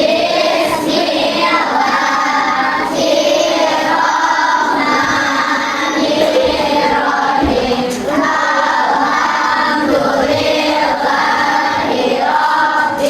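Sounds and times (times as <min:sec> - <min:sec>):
children chanting a prayer: 0:00.0 - 0:13.0.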